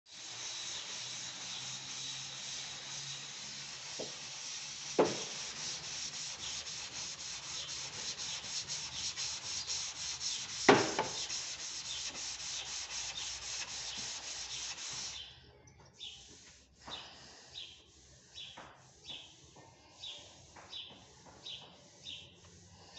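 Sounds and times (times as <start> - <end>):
sandpaper rubbing on steel: 0.1 - 15.3, 16.0 - 22.9.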